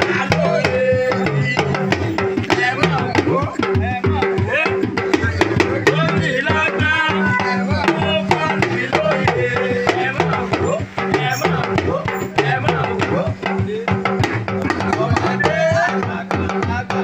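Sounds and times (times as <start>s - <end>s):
hand drum music with bass: 0.0s - 17.0s.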